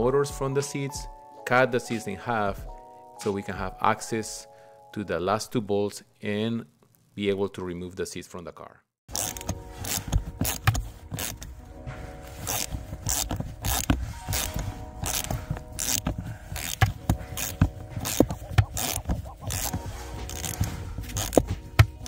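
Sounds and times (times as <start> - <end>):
background music: 0.0 - 6.5, 9.1 - 22.0.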